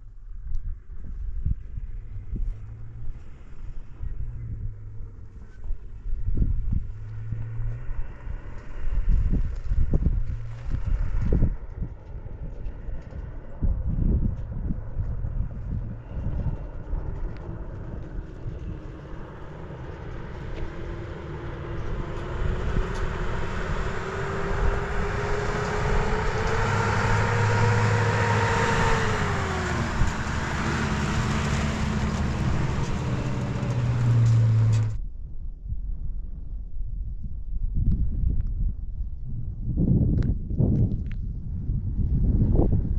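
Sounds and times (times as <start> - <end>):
vehicle engine approaching: 0.0 - 35.0.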